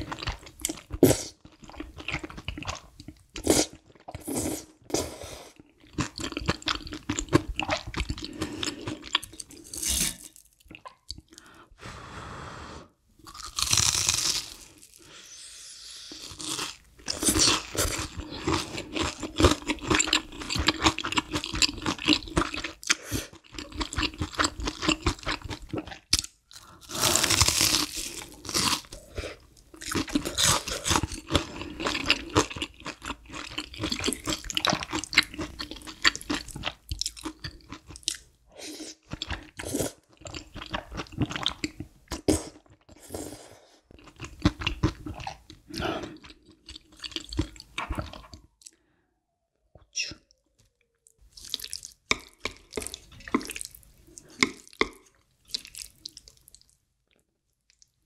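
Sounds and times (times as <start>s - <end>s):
chewing and crunching food: 0.0s - 4.8s, 5.5s - 11.5s, 13.2s - 15.1s, 16.1s - 48.8s, 49.8s - 58.0s.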